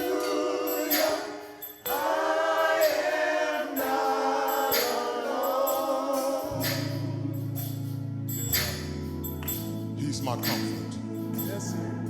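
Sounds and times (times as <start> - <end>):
choir singing long notes: 0.0 - 12.0.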